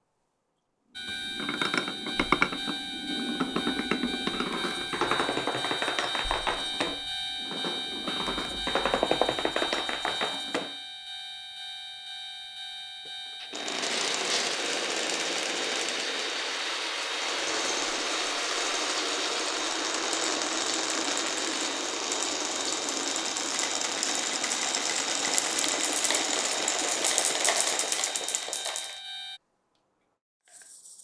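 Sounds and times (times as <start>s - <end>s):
marbles rolling on wooden run: 1.0s - 10.7s, 13.5s - 29.0s.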